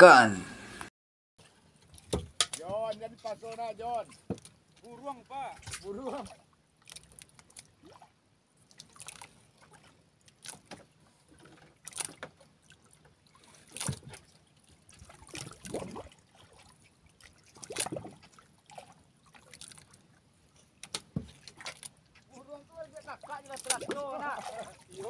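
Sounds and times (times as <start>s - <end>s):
water lapping against boat hull: 1.4s - 25.0s.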